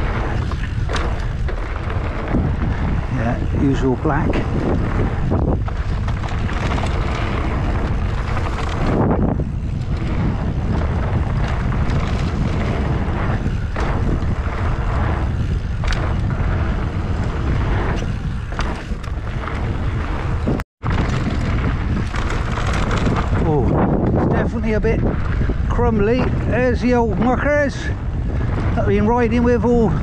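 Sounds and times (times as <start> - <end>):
bike clattering over bumps: 0.0 - 30.0
bike tyres on dirt trail: 0.0 - 30.0
wind buffeting microphone: 0.0 - 30.0.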